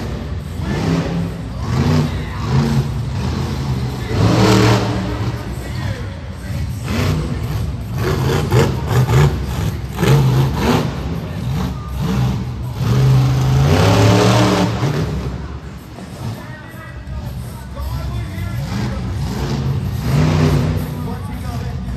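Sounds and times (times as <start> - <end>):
monster truck engine revving: 0.0 - 16.6, 18.0 - 21.9.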